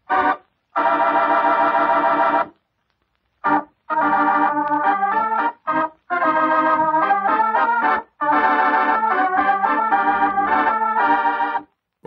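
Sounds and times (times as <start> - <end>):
organ chords: 0.0 - 2.6, 3.4 - 11.7.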